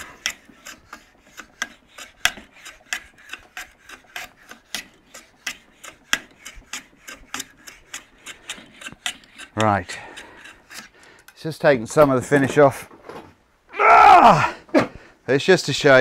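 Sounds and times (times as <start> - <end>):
hand plane scraping wood: 0.0 - 12.9.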